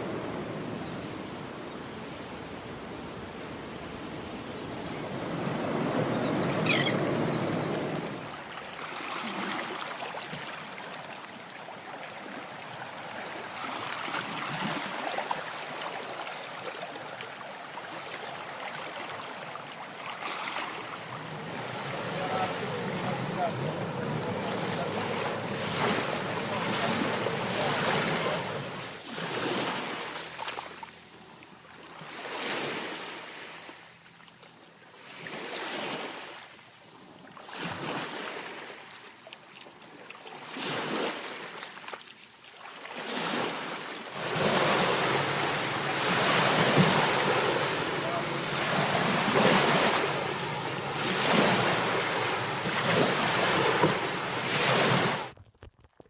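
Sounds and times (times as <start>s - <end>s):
waves breaking: 0.0s - 34.2s, 35.0s - 56.0s.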